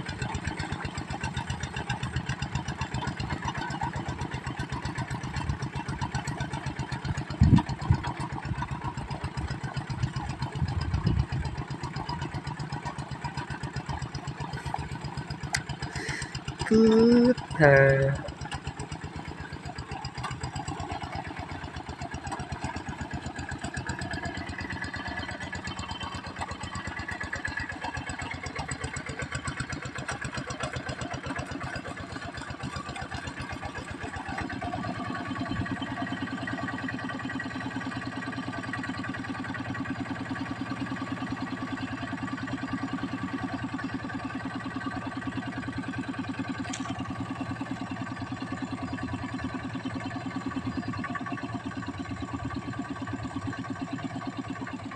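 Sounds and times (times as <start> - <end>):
diesel tractor engine running: 0.0 - 54.9.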